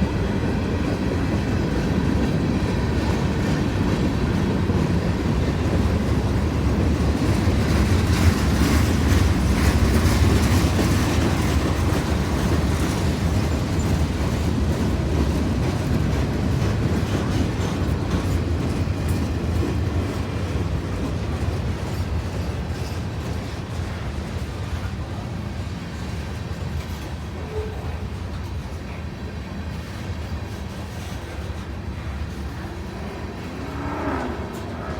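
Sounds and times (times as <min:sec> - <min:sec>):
freight train wheels rumbling: 0:00.0 - 0:34.9
clicking from rail joints: 0:00.8 - 0:34.9.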